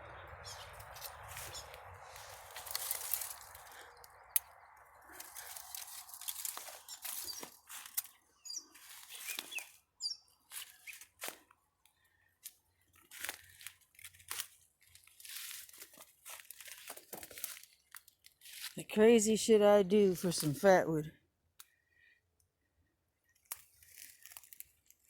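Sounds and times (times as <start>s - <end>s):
brush and twigs crunching: 0.4s - 21.0s, 23.3s - 25.0s.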